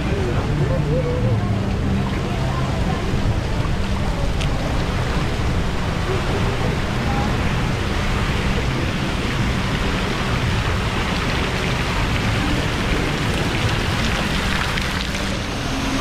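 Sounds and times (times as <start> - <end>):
water splashing onto river surface: 0.0 - 16.0.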